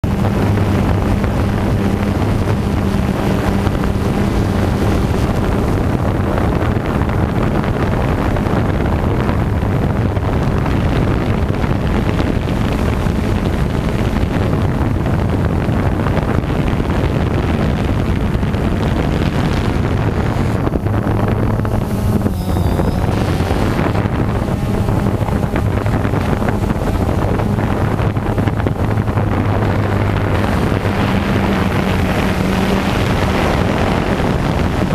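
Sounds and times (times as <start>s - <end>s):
drone propellers humming: 0.0s - 34.9s
wind noise on microphone: 0.0s - 34.9s.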